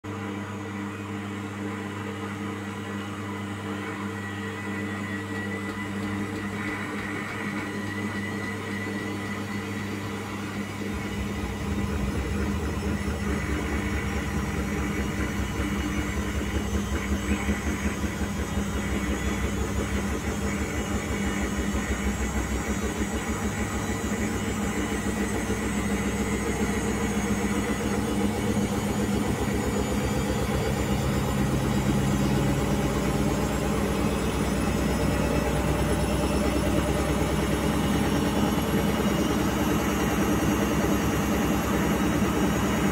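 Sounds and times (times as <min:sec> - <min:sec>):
faint rising whine: 0:03.3 - 0:42.9
washing machine drum speeding up: 0:03.6 - 0:42.9.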